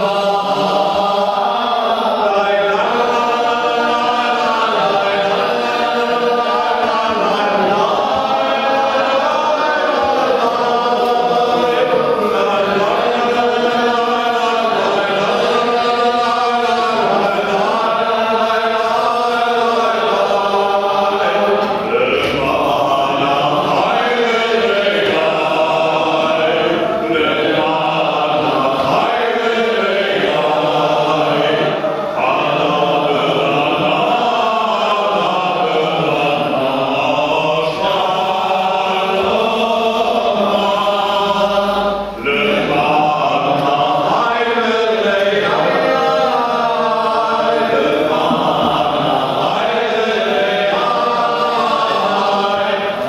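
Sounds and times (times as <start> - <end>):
man chanting a prayer: 0.0 - 53.0.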